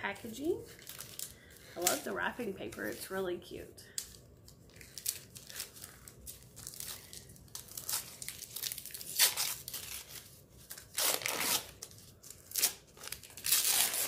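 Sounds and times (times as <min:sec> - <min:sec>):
wrapping paper tearing: 0:00.6 - 0:02.2, 0:04.0 - 0:14.0.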